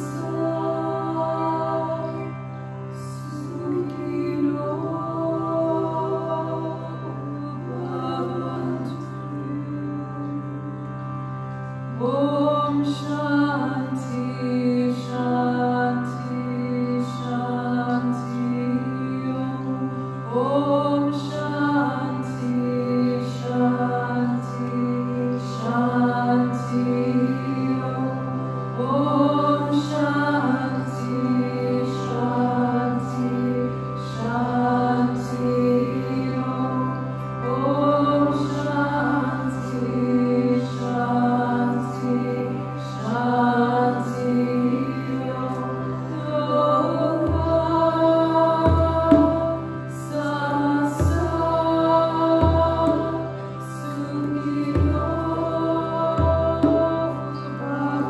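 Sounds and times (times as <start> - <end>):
voices singing a slow chant: 0.0 - 11.0, 11.6 - 58.0
low drone: 0.0 - 58.0.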